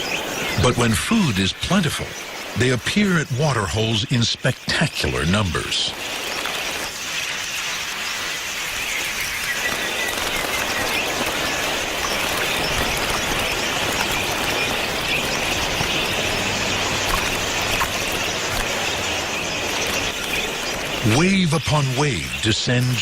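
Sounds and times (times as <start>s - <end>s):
flock of birds chattering: 0.0s - 23.0s.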